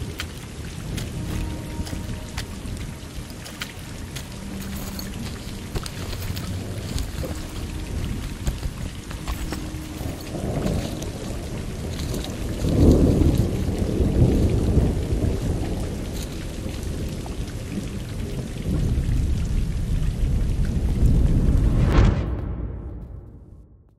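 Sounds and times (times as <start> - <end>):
heavy rain pouring: 0.0 - 22.4
thunder rumbling: 0.0 - 23.8.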